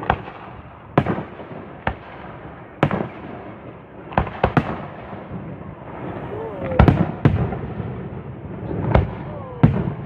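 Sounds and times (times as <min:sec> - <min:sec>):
fireworks bursting bangs: 0:00.0 - 0:10.0
fireworks crackle: 0:00.0 - 0:10.0.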